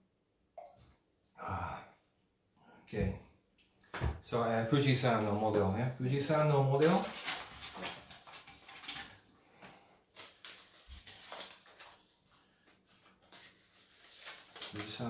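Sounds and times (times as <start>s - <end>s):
faint rustling of items: 2.8s - 15.0s.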